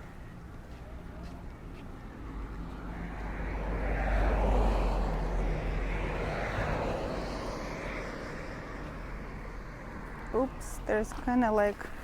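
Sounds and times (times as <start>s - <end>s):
passing vehicle engine: 0.0s - 11.3s.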